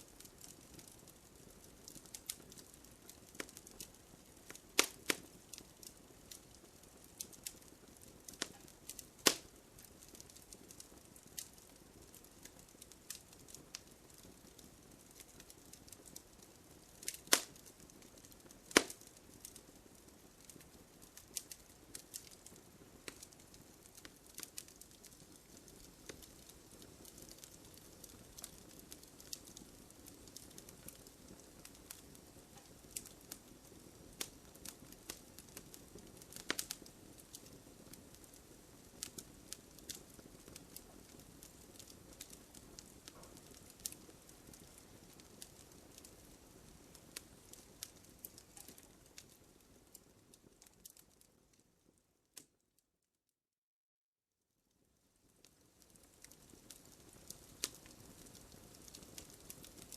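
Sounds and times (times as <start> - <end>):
campfire crackling: 0.0 - 52.6, 54.8 - 59.9
loud pops of burning wood: 0.1 - 51.3, 55.4 - 59.9.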